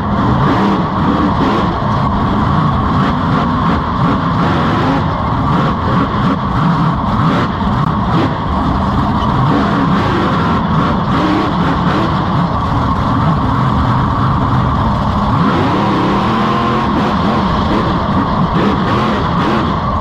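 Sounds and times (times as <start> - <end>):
monster truck engine running: 0.0 - 20.0.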